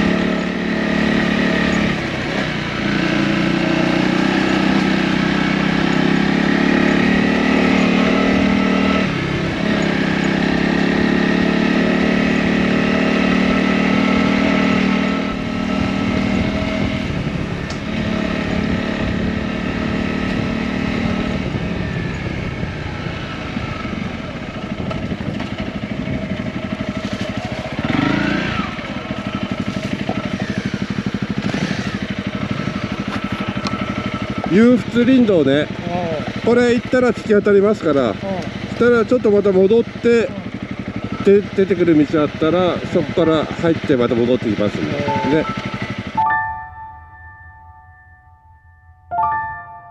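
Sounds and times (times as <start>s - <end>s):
dirt bike engine running: 0.0s - 46.2s.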